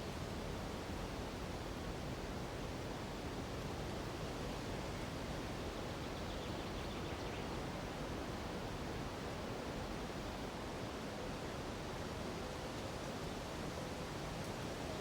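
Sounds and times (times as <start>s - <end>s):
wind through treetops: 0.0s - 15.0s.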